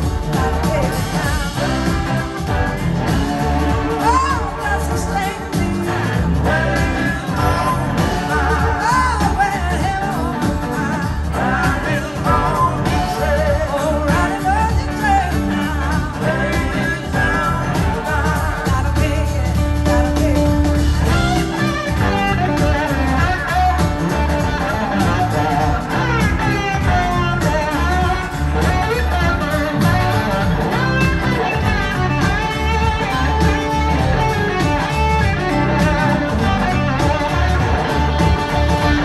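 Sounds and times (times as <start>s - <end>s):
bass: 0.0s - 39.0s
drums: 0.0s - 39.0s
electric guitar lead with bending notes: 0.0s - 39.0s
keyboard: 0.0s - 39.0s.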